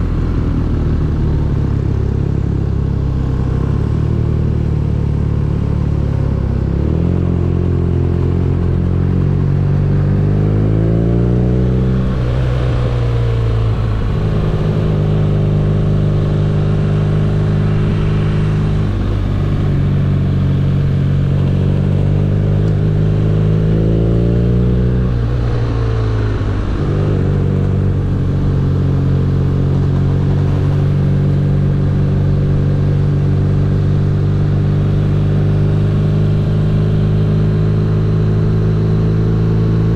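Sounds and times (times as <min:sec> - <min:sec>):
motorcycle engine revving: 0:00.8 - 0:39.9.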